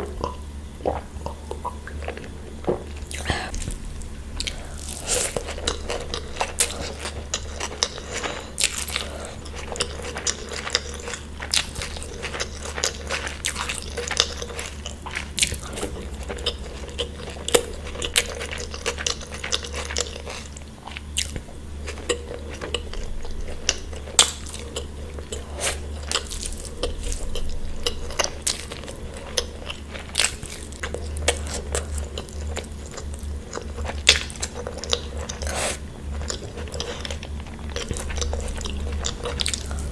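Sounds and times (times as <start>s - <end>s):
crunchy food chewing: 0.0s - 39.9s
low hum: 0.0s - 39.9s.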